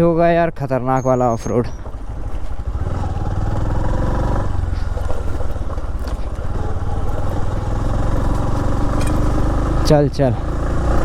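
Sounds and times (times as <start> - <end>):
motorcycle engine running: 1.7 - 11.0.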